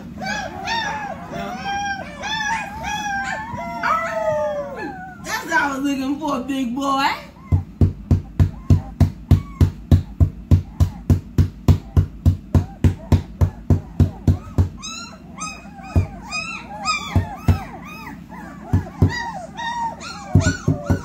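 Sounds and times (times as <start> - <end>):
puppies whimpering and yelping: 0.0 - 5.8, 6.8 - 21.0.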